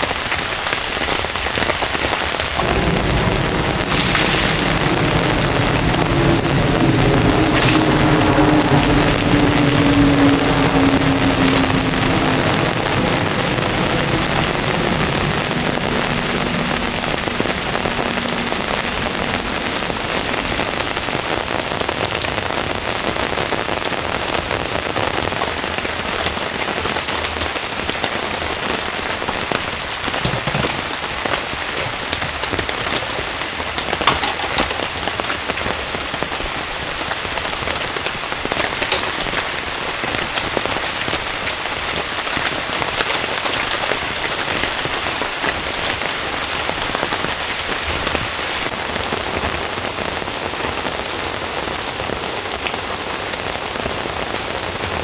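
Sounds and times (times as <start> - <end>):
heavy rain on a tarp: 0.0 - 55.0
sharp rain taps: 0.0 - 55.0.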